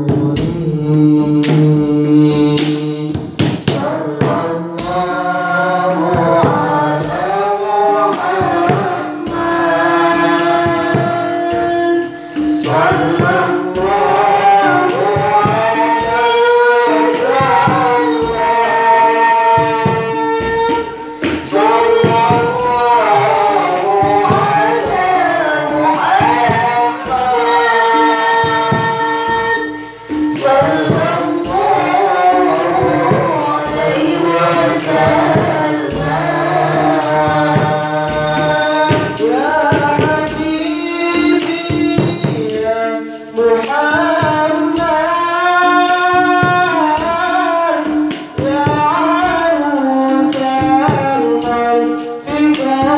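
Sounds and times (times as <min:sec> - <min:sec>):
woman singing devotional song: 0:00.0 - 0:52.9.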